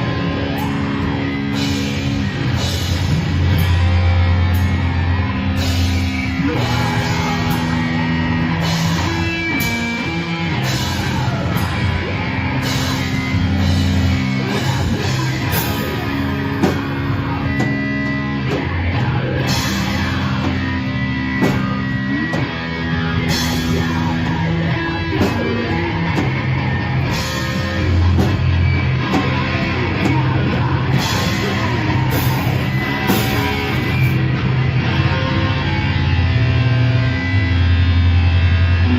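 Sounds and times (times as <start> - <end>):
electric guitar riffing: 0.0 - 38.9
rock band playing live: 0.0 - 38.9.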